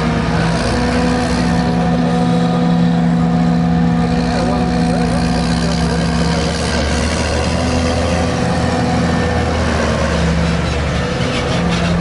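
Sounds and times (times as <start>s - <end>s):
diesel engines humming: 0.0s - 12.0s.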